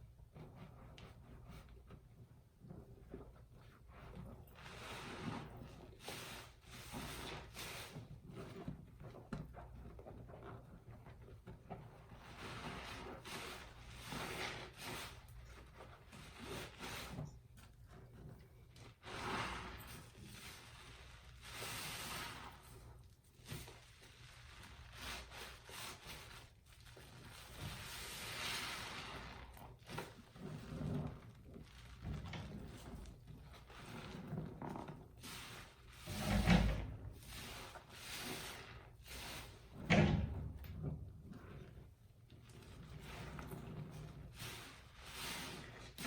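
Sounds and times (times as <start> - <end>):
wet sponges squishing: 0.2 - 39.8, 40.8 - 46.0.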